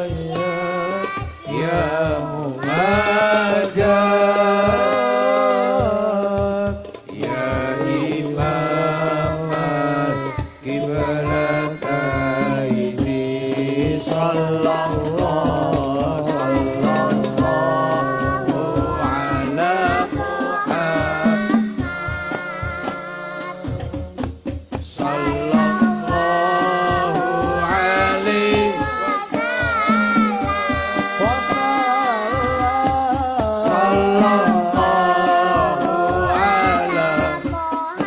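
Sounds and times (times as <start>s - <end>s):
frame drum beat: 0.0s - 38.0s
person singing devotional song: 0.0s - 38.0s.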